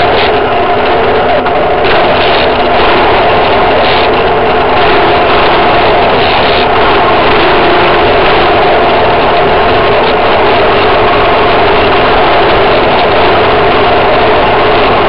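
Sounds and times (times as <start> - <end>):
motorcycle engine running loudly: 0.0 - 15.0.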